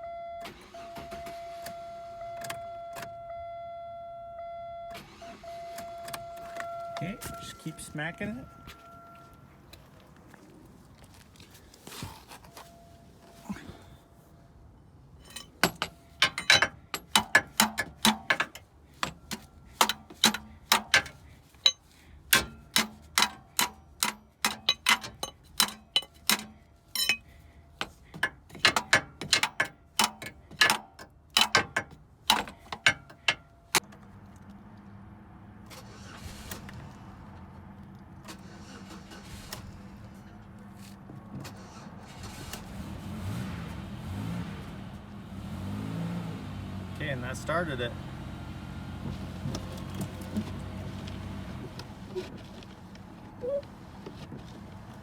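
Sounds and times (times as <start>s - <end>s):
engine hum: 4.4s - 55.0s.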